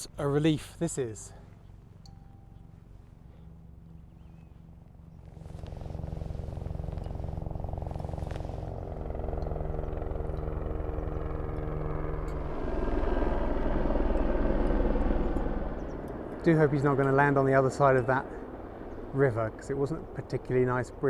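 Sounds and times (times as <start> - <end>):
helicopter rotor beat: 3.4 - 21.0.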